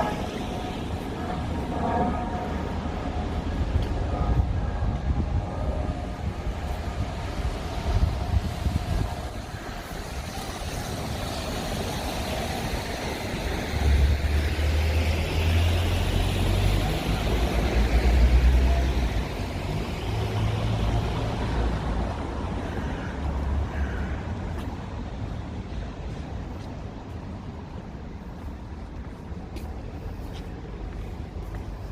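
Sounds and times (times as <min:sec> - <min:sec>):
street traffic passing: 0:00.0 - 0:31.9
wind rumbling on microphone: 0:00.0 - 0:31.9.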